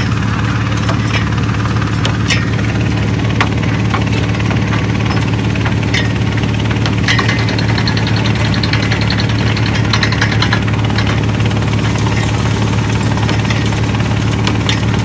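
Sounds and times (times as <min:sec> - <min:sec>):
drilling rig engine running: 0:00.0 - 0:15.0.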